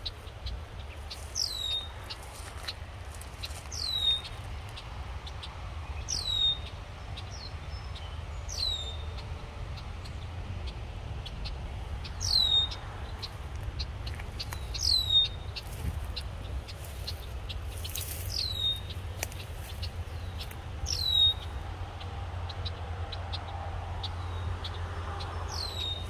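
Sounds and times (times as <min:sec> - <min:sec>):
faint bird chirps and ticks: 0:00.0 - 0:26.0.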